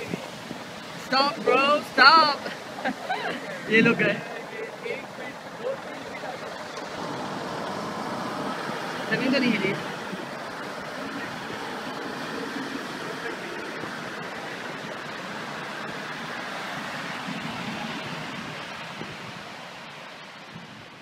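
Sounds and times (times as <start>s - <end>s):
surf breaking on beach: 0.0s - 21.0s.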